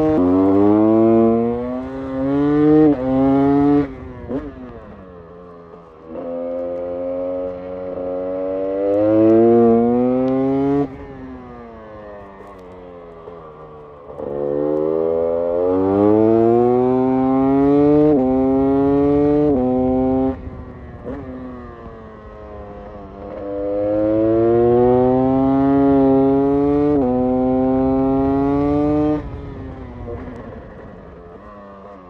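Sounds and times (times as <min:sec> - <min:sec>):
two-stroke engine accelerating: 0:00.0 - 0:32.0.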